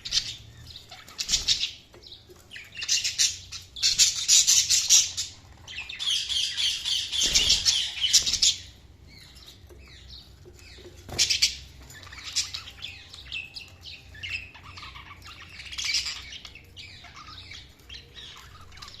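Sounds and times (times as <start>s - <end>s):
budgerigars chirping and warbling: 0.0s - 19.0s.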